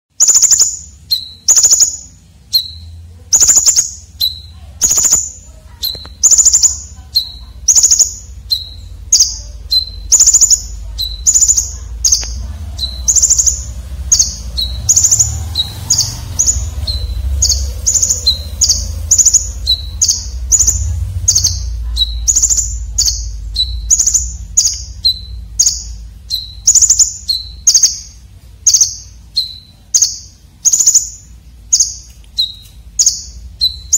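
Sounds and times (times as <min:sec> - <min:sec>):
songbird harsh high chirps: 0:00.1 - 0:33.9
steady low rumble: 0:00.5 - 0:33.9.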